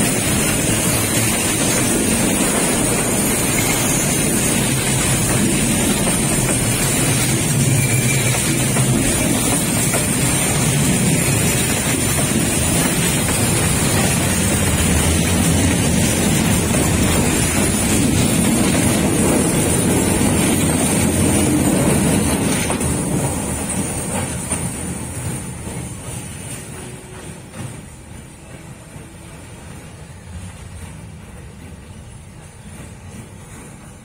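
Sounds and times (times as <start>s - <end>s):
diesel locomotive engine rumble: 0.0s - 34.0s
train wheels on rails: 0.0s - 34.0s.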